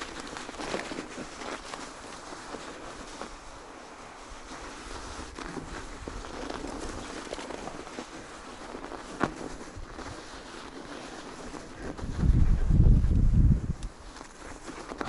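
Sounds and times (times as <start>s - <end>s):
footsteps on snow: 0.0s - 15.0s.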